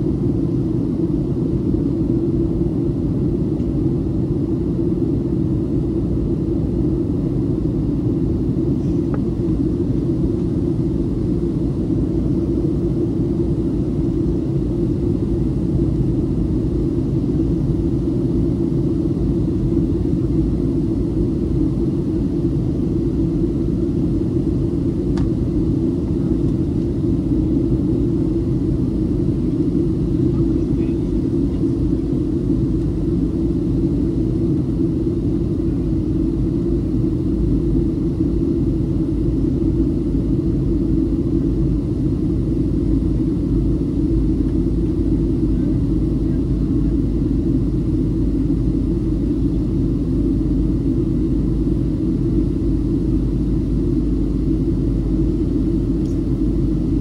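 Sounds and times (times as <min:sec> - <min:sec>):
airliner cabin drone: 0:00.0 - 0:57.0.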